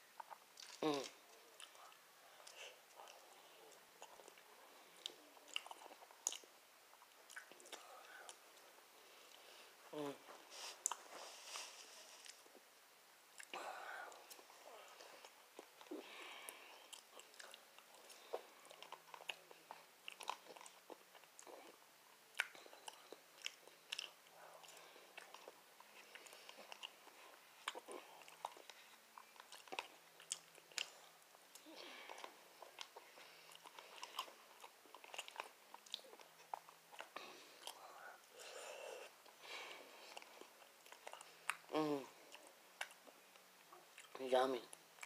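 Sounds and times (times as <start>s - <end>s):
person chewing: 0.1s - 12.6s, 13.3s - 45.0s.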